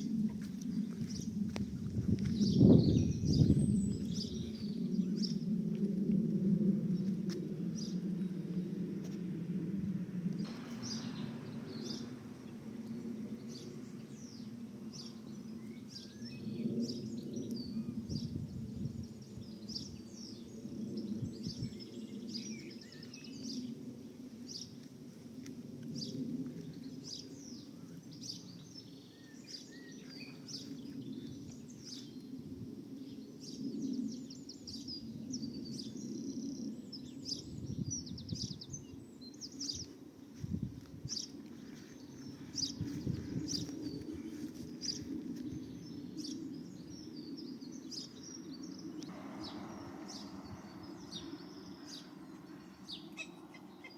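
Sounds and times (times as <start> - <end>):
small birds chirping: 0.0 - 5.6, 6.9 - 8.8, 10.3 - 24.9, 25.9 - 32.4, 33.0 - 53.9
steady low rumble: 0.0 - 53.9.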